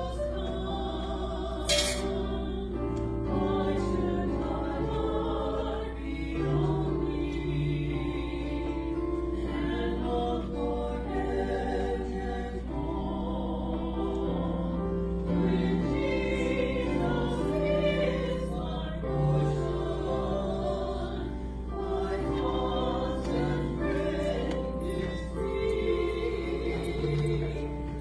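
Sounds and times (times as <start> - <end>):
church choir singing: 0.0 - 28.0.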